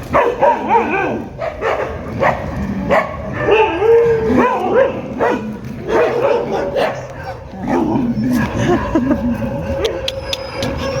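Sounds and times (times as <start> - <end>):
dogs barking: 0.0 - 11.0
dogs whining and yipping: 0.2 - 11.0.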